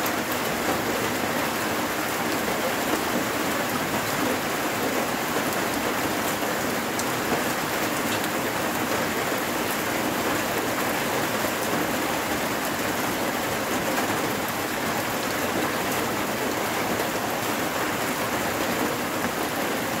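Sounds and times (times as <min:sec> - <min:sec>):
heavy rain on water: 0:00.0 - 0:20.0
raindrops ticking close by: 0:00.0 - 0:20.0.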